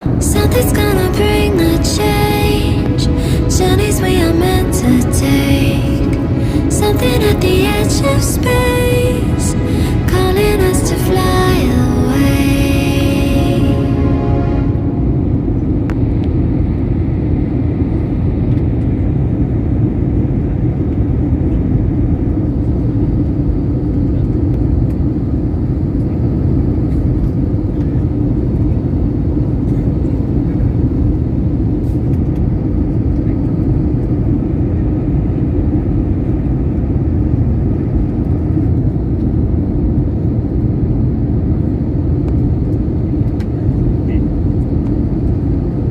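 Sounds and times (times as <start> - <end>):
plane rumble: 0.0 - 45.9.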